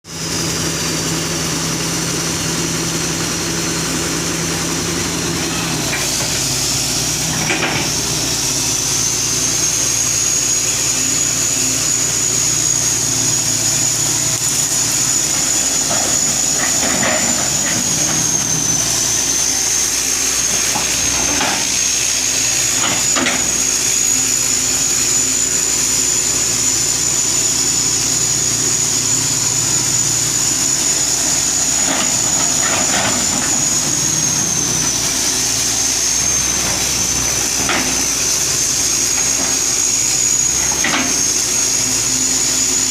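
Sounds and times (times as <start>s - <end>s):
high whine: 0.0s - 42.9s
excavator diesel engine running: 0.1s - 42.9s.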